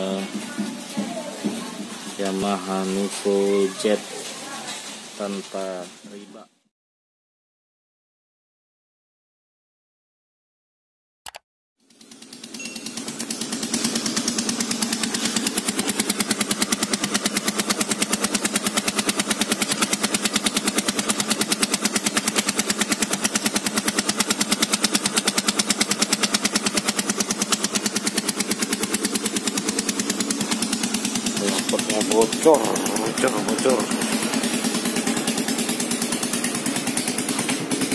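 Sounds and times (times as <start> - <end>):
scooter engine idling: 0.0 - 6.3, 11.8 - 37.9.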